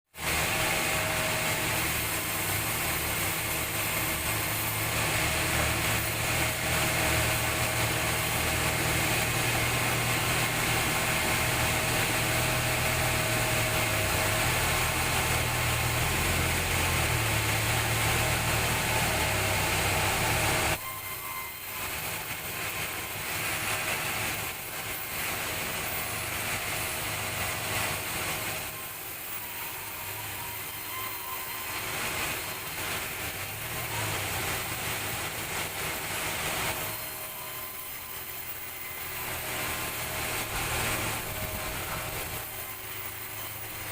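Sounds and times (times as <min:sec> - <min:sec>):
sawmill saw cutting log: 0:00.2 - 0:43.9.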